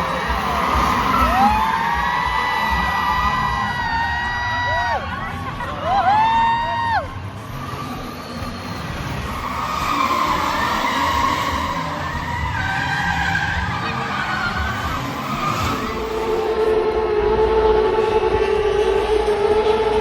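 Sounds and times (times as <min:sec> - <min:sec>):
car engines running: 0:00.0 - 0:20.0
steady droning tone: 0:00.0 - 0:20.0
tires squealing: 0:00.0 - 0:20.0.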